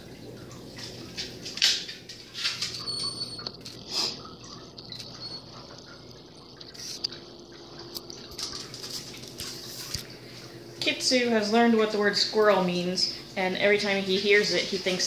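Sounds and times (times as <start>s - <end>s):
rainwater dripping: 0.0s - 15.0s.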